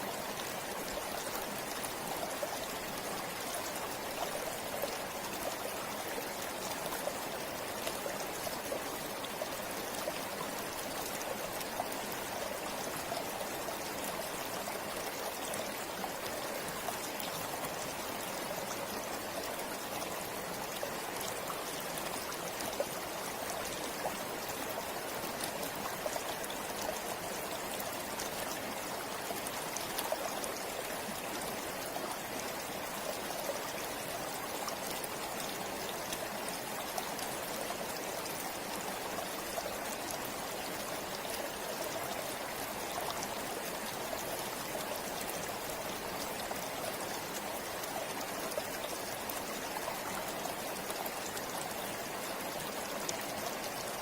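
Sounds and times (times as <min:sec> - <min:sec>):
river flowing: 0:00.0 - 0:54.0
water splashes and trickles: 0:00.0 - 0:54.0.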